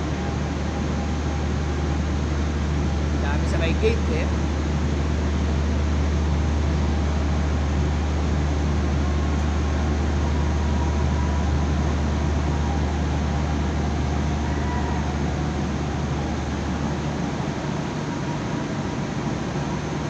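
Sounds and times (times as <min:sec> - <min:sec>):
low machinery drone with hiss: 0:00.0 - 0:20.0.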